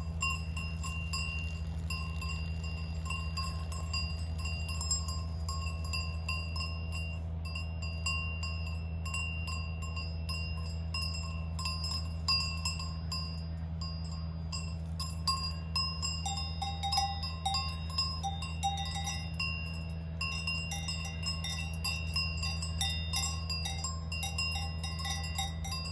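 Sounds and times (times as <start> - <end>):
cowbells clanking: 0.0 - 25.9
differently pitched bell: 0.0 - 25.9
steady low hum: 0.0 - 25.9.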